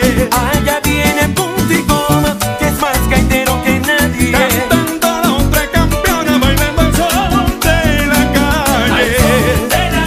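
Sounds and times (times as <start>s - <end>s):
band playing upbeat song: 0.0s - 10.0s.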